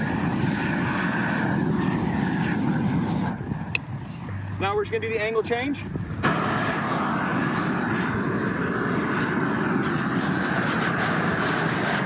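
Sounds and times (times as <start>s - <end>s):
roofing torch flame rushing: 0.0s - 12.0s.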